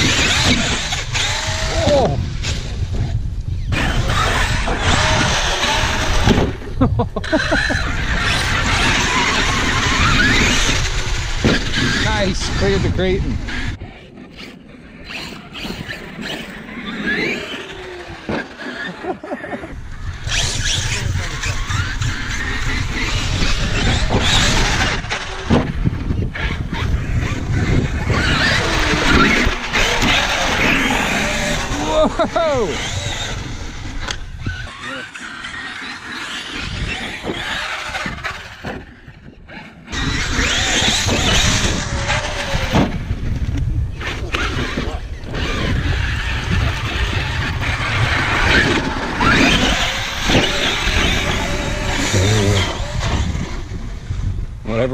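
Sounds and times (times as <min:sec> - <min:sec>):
electric motor whining: 0:00.0 - 0:54.9.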